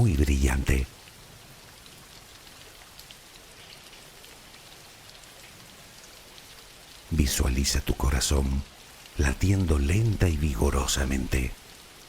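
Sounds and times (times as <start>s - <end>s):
soft rain falling: 0.0s - 12.0s.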